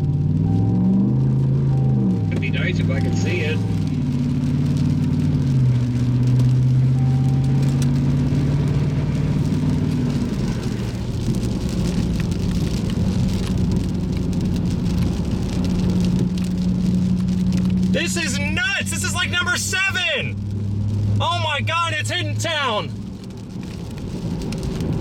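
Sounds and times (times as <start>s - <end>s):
car engine hum: 0.0s - 25.0s
road noise: 0.0s - 25.0s.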